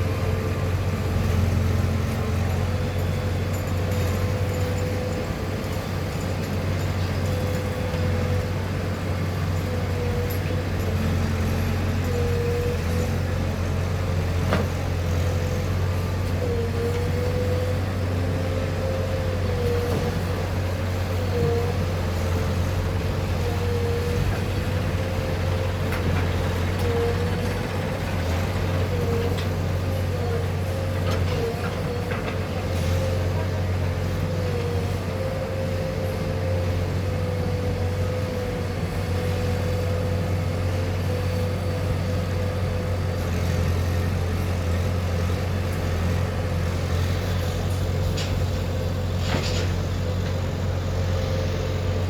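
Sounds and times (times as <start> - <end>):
diesel engine running under load: 0.0 - 52.0
engine whine: 0.0 - 52.0.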